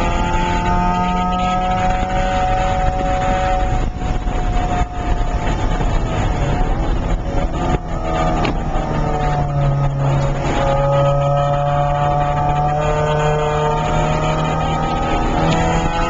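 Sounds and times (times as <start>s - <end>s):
car engine revving from inside cabin: 0.0s - 16.0s.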